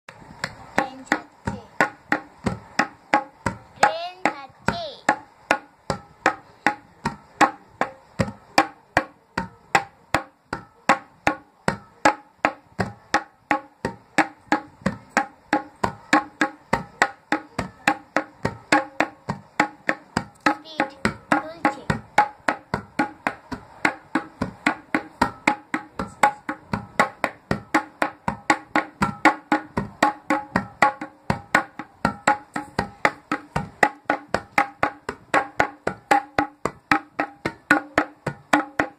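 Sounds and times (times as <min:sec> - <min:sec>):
tabla drums playing: 0:00.3 - 0:38.9.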